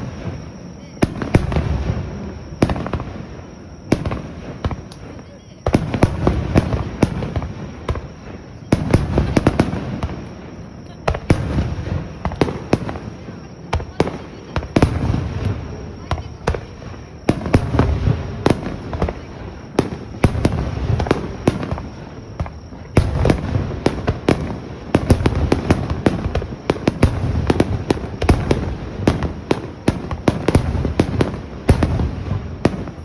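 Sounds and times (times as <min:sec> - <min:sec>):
fireworks crackling: 0:00.0 - 0:33.0.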